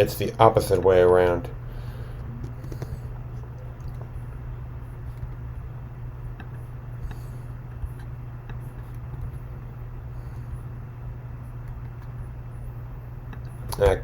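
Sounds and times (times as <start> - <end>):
low computer hum: 0.0 - 14.0.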